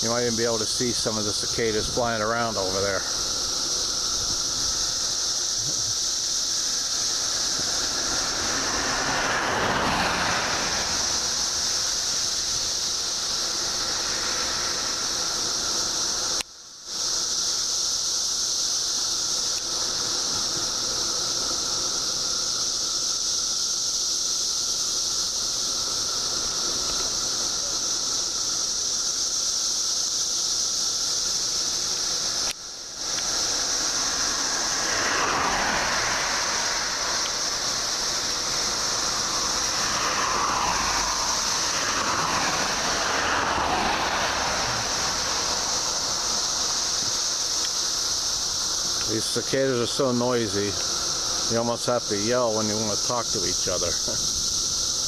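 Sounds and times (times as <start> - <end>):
cicadas buzzing: 0.0 - 55.0
low noise rush: 0.0 - 55.0.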